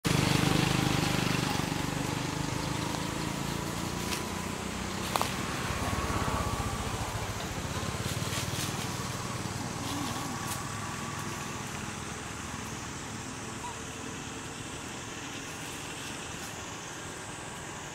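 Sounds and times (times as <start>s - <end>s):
distant motor rumbling: 0.0s - 17.9s.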